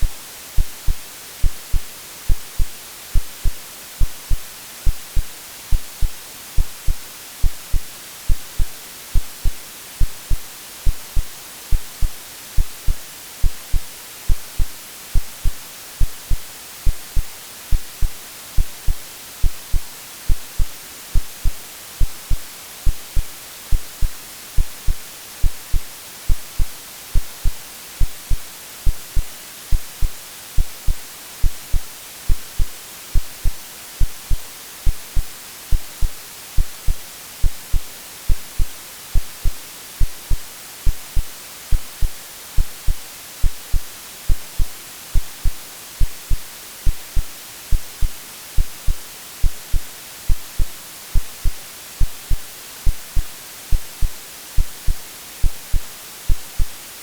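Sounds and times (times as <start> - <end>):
white noise hiss: 0.0 - 57.0
synthesized heartbeat thumps: 0.6 - 56.7.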